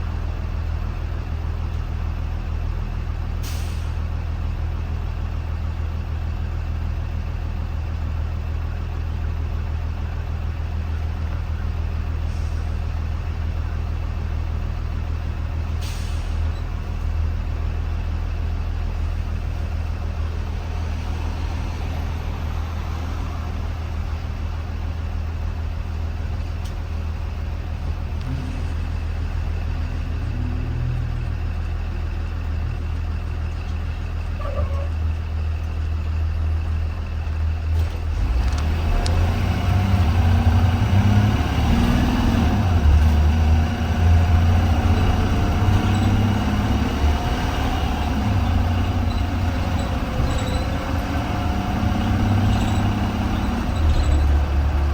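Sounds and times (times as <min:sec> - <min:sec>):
bus engine droning: 0:00.0 - 0:54.9.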